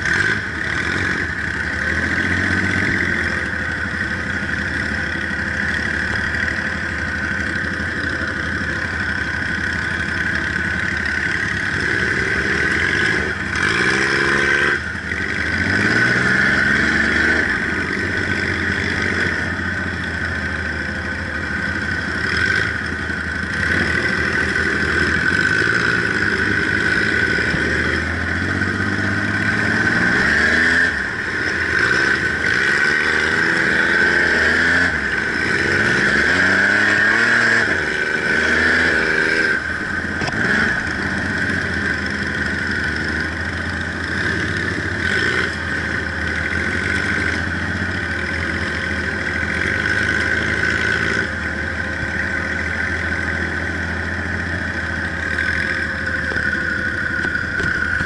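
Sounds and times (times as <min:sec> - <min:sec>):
buggy engine revving: 0:00.0 - 0:58.0.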